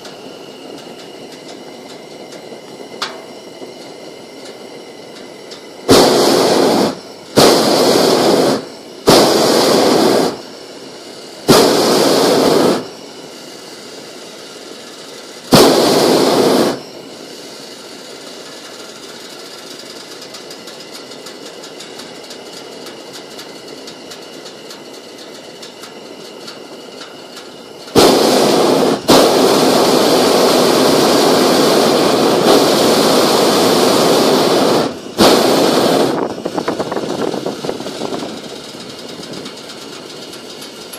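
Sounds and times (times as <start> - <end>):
propane burner firing: 0.0 - 40.9.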